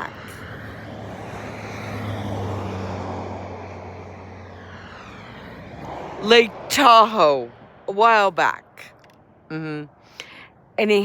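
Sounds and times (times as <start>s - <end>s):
passing engine hum: 0.0s - 10.9s.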